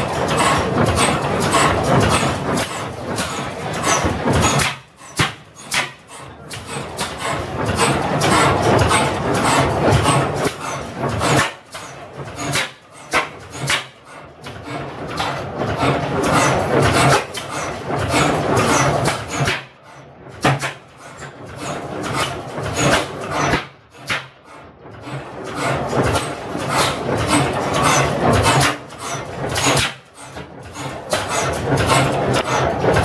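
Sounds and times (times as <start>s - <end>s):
gas engine firing exhaust beats: 0.0s - 33.0s.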